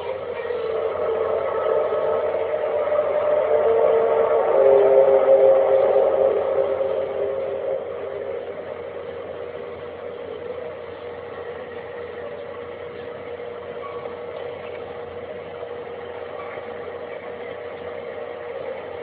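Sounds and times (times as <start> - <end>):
constant tone drone: 0.0 - 19.0
hiss: 0.0 - 19.0.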